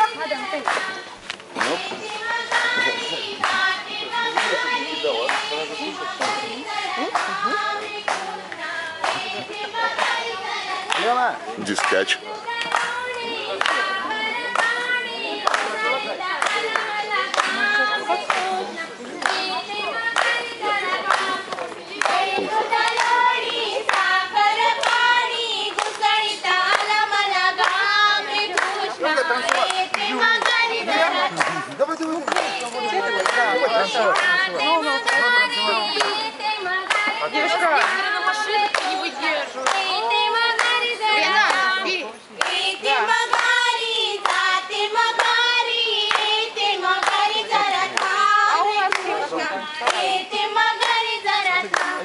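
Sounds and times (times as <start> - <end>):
women singing folk song: 0.0 - 11.0, 12.2 - 52.0
hands clapping in time: 0.6 - 41.7, 42.4 - 50.2, 50.8 - 52.0.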